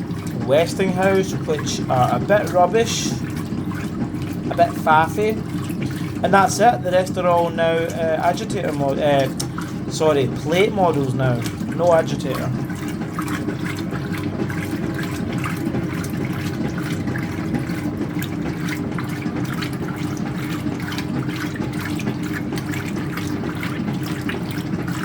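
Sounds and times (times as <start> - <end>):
washing machine sloshing and churning: 0.0 - 25.0.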